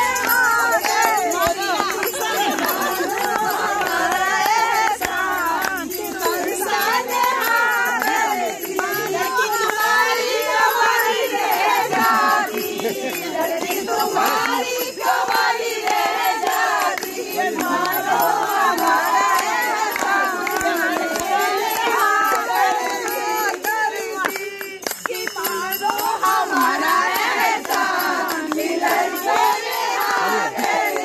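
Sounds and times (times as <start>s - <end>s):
women singing: 0.0s - 31.0s.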